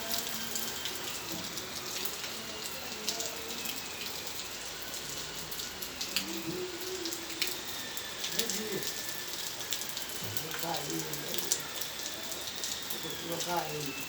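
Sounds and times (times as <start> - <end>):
rain falling: 0.0 - 14.0
water drips and splashes: 0.0 - 14.0.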